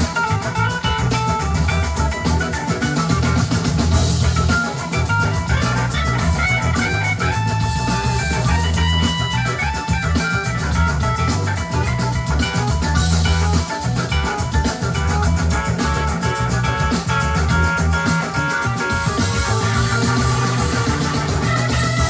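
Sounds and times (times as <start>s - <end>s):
drums: 0.0s - 22.0s
electric guitar: 0.0s - 22.0s
heavy bass: 0.0s - 22.0s
live rock band: 0.0s - 22.0s.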